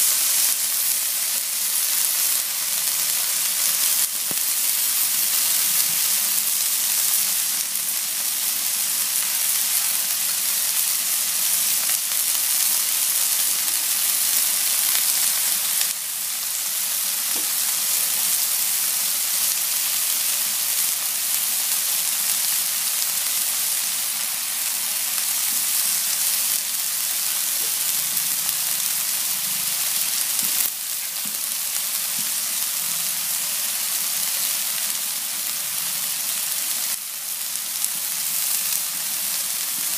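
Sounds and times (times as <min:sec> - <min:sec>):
chicken sizzling on a grill pan: 0:00.0 - 0:39.9.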